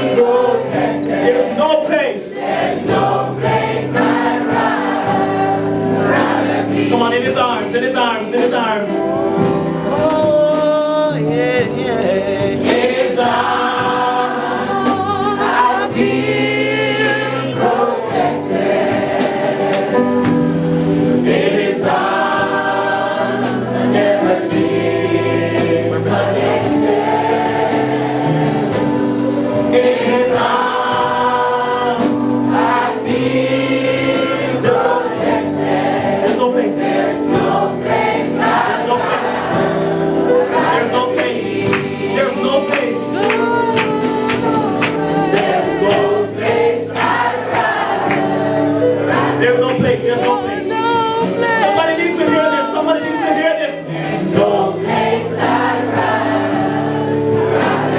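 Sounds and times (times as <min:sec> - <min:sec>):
gospel choir singing: 0:00.0 - 0:57.9
instrumental backing: 0:00.0 - 0:57.9.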